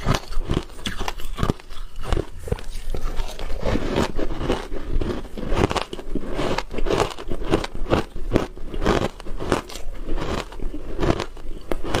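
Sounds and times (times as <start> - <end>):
chewing crunchy ice: 0.0 - 12.0.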